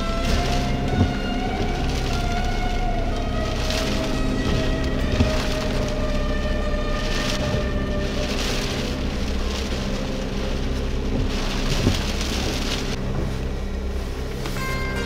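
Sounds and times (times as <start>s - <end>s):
rain and wind hissing: 0.0s - 15.0s
steady droning tone: 0.0s - 15.0s.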